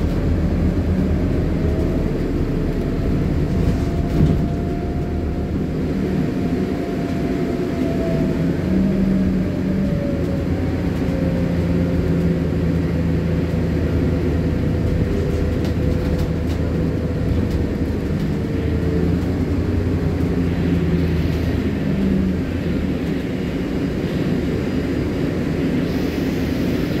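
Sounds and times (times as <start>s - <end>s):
bus engine drone: 0.0s - 27.0s
road and cabin noise: 0.0s - 27.0s.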